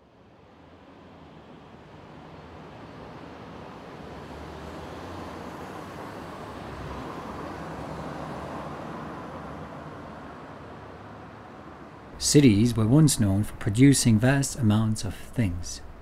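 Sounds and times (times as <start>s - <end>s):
distant city traffic: 0.8s - 16.0s.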